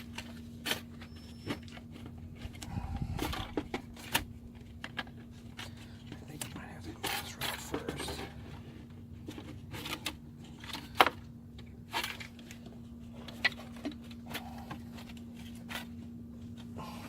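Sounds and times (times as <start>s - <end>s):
clicks and knocks of engine parts: 0.0s - 16.8s
steady low hum: 0.0s - 17.0s.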